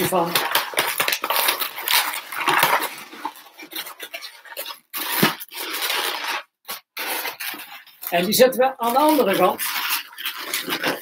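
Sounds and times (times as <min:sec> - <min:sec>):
latex balloon squeaking: 0:00.0 - 0:11.0.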